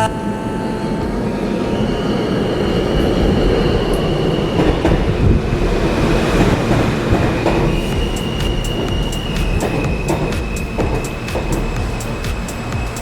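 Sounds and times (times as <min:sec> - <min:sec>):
high steady train whine: 0:00.0 - 0:13.0
train wheels rumbling on rails: 0:00.8 - 0:13.0.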